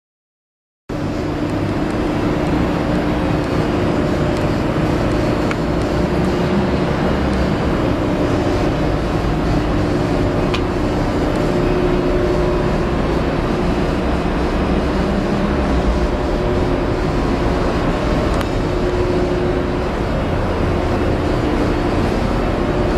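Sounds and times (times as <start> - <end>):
low hum: 0.9 - 22.9
machinery droning: 0.9 - 22.9.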